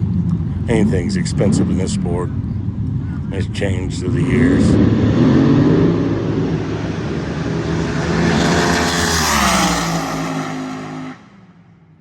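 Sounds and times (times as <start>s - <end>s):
dragster engine roaring: 0.0s - 11.4s.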